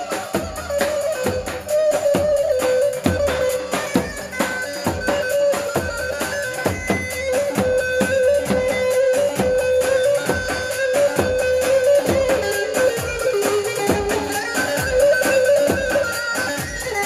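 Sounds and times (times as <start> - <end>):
folk dance melody: 0.0 - 17.0
steady drum beat: 0.0 - 17.0.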